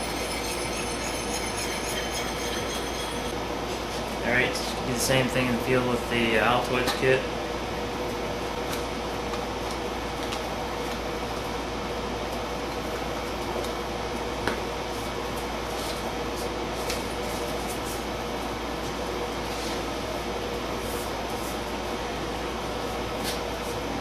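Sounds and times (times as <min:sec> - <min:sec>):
room hum with faint tone: 0:00.0 - 0:24.0.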